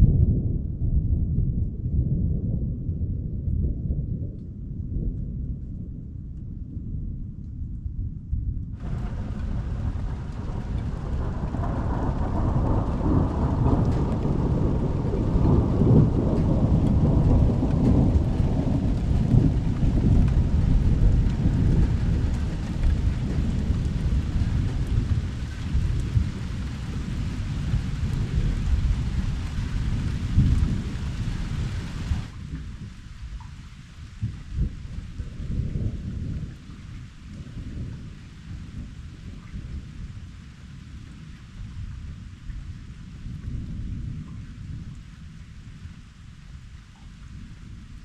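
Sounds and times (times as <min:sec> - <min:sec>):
rolling thunder rumbling: 0:08.8 - 0:48.0
steady rain hiss: 0:08.8 - 0:48.0.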